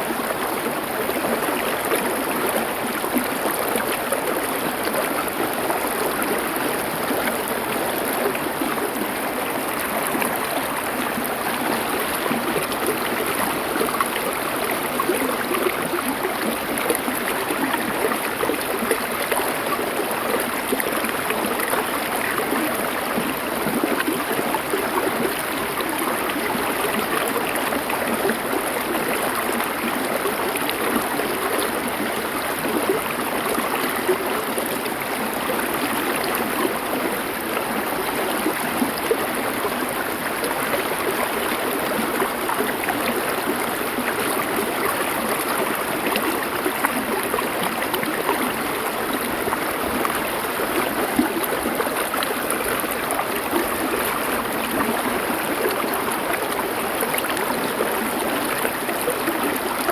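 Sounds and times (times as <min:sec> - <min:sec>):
river flowing over stones: 0:00.0 - 0:59.9.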